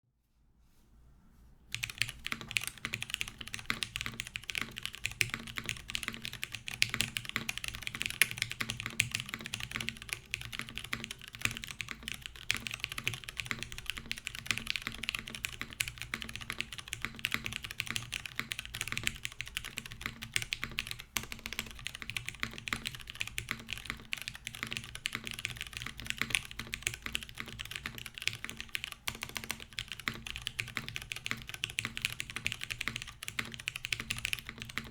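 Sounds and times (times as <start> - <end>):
fast typing on mechanical keyboard: 1.7 - 34.9.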